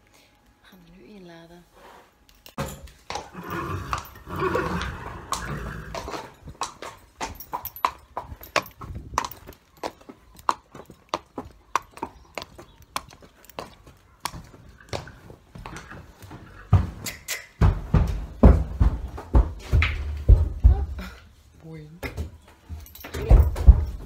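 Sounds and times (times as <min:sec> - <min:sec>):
hooves clopping on paving stones: 0:02.5 - 0:24.0
hooves thudding on trailer ramp: 0:02.6 - 0:21.3, 0:22.1 - 0:24.0.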